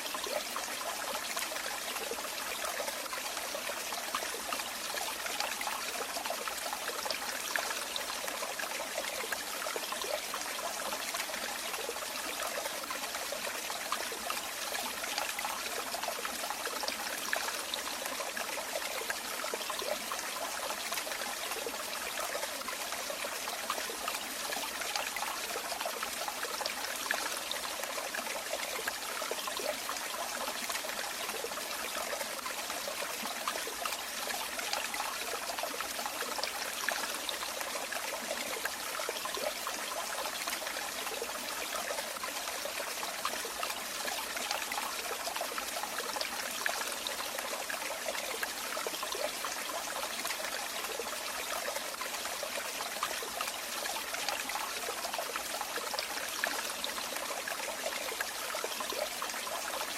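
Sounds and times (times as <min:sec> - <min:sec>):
water trickling and bubbling: 0:00.0 - 0:59.9.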